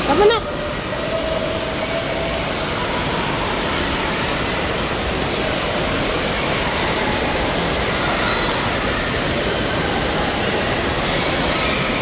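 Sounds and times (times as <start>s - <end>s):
reverberant indoor din: 0.0s - 12.0s
water falling and splashing: 0.0s - 12.0s.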